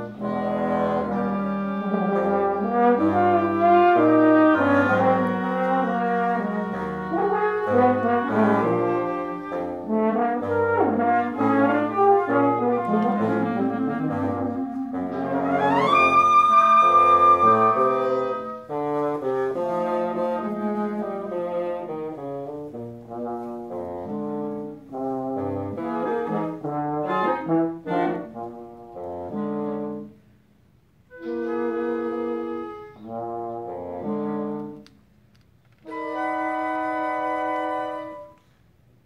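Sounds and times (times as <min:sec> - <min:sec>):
woodwind quintet playing: 0:00.0 - 0:35.1, 0:35.8 - 0:38.7.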